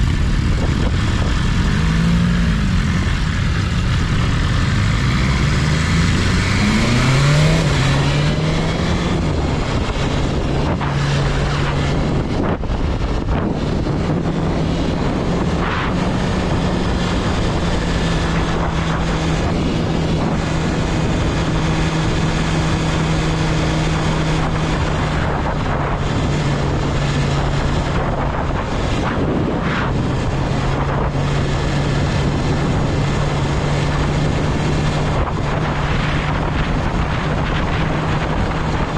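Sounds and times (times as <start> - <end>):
motorcycle engine accelerating: 0.0 - 38.9
wind rushing over microphone: 0.0 - 38.9.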